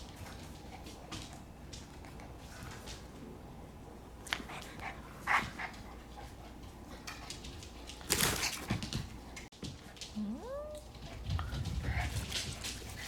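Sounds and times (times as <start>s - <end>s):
puppies scuffling: 0.0s - 13.0s.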